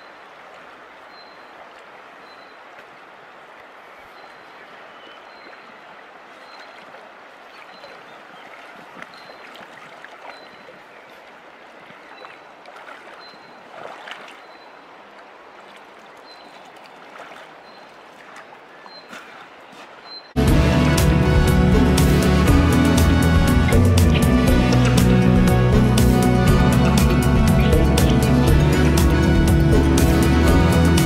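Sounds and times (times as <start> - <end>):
stream over gravel: 0.0 - 31.0
water splashes: 0.0 - 31.0.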